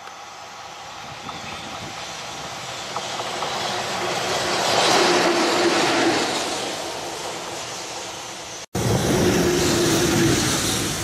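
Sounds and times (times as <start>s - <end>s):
locomotive passing on rails: 0.0s - 11.0s.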